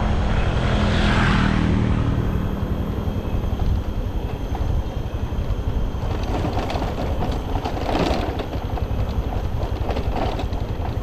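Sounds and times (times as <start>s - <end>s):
motor scooter engine rumble: 0.0s - 11.0s.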